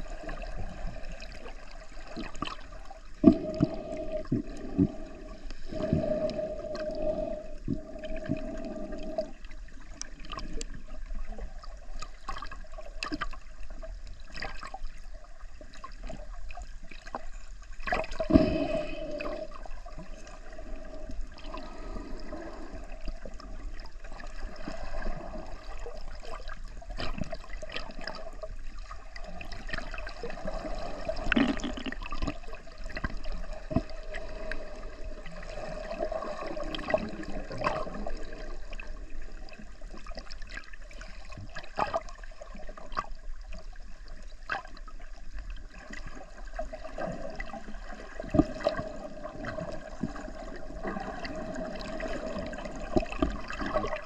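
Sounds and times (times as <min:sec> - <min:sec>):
steady underwater hum: 0:00.0 - 0:54.0
underwater sloshing and gurgling: 0:00.0 - 0:54.0.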